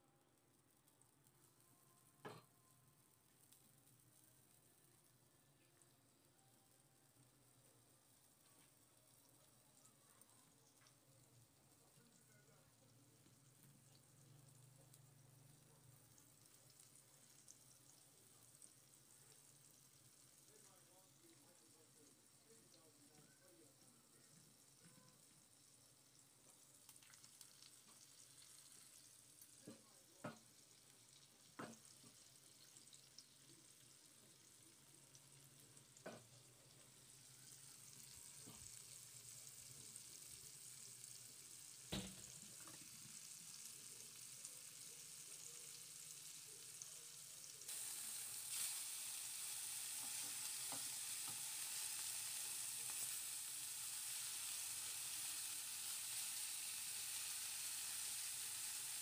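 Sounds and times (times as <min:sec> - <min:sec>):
fish sizzling in oil: 0:00.6 - 0:59.0.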